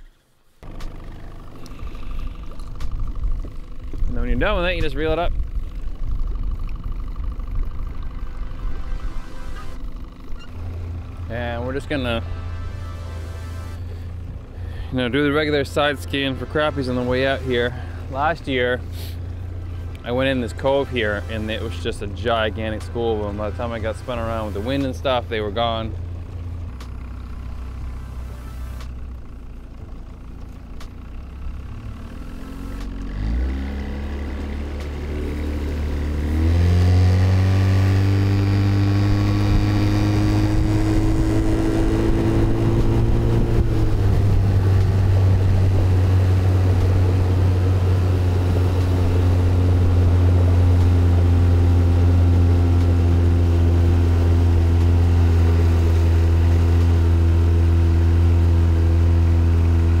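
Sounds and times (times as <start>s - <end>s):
outboard motor running: 0.0s - 60.0s.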